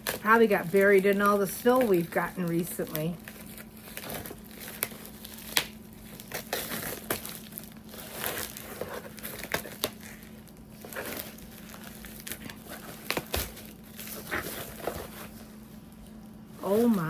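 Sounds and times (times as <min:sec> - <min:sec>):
faint steady hum: 0:00.0 - 0:17.0
packaging crinkling and rustling: 0:00.0 - 0:17.0.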